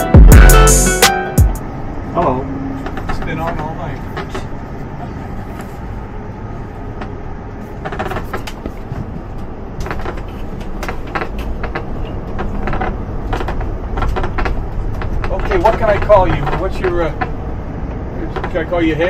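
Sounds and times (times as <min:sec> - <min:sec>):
vehicle driving low rumble: 0:00.0 - 0:19.0.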